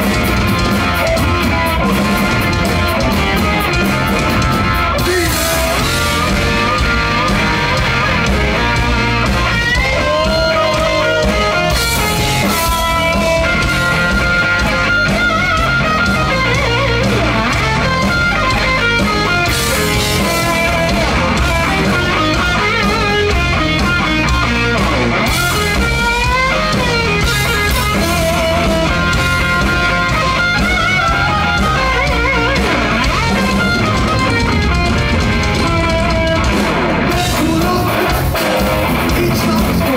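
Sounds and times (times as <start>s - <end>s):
bending electric guitar lead: 0.0s - 39.9s
heavy metal band playing: 0.0s - 39.9s.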